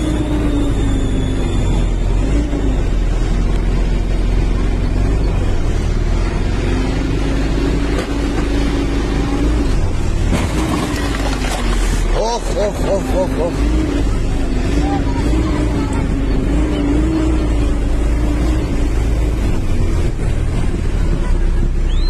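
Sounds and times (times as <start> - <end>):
car cabin road rumble: 0.0 - 22.0
droning engine hum: 0.0 - 22.0.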